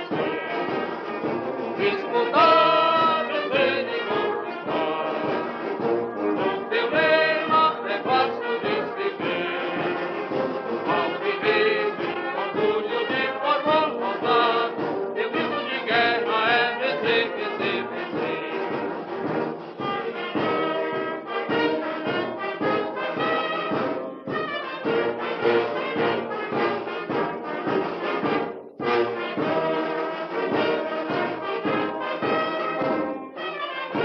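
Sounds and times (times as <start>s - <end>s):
instrumental club music with brass: 0.0s - 34.0s.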